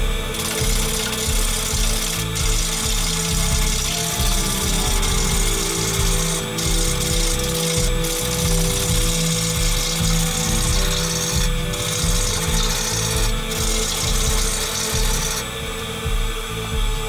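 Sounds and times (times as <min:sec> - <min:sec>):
gouge cutting wood on lathe: 0:00.0 - 0:17.0
lathe humming: 0:00.0 - 0:17.0.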